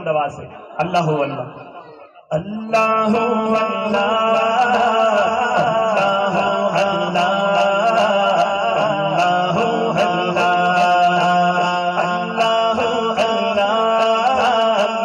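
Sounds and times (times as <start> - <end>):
man chanting devotional verse: 0.0 - 15.0.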